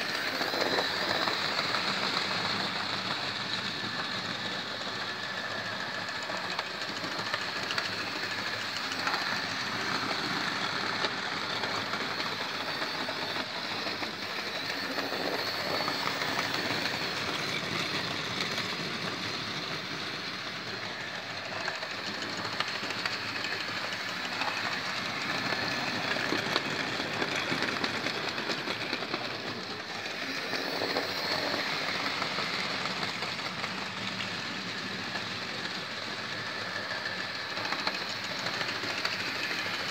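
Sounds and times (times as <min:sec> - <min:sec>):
model train rattling whir: 0:00.0 - 0:39.9.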